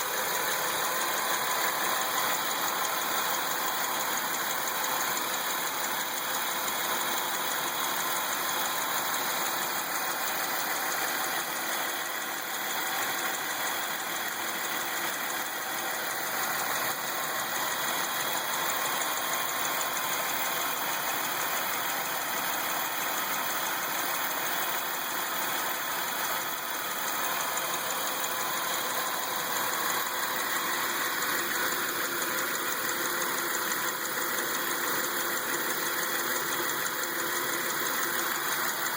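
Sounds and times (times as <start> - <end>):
car engine idling: 0.0 - 38.9
engine ticking: 0.0 - 38.9.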